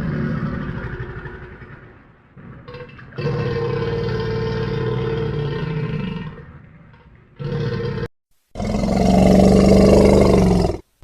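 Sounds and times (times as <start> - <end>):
large animal roaring: 0.0 - 6.6, 7.4 - 10.8.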